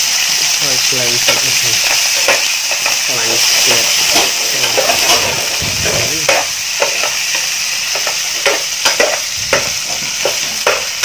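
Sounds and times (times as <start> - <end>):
meat sizzling in hot oil: 0.0 - 11.0
spatula scraping a pan: 1.3 - 11.0.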